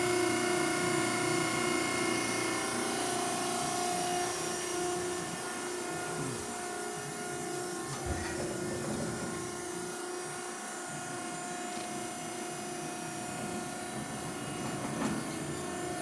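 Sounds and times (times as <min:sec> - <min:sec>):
hydraulic pump motor humming: 0:00.0 - 0:16.0.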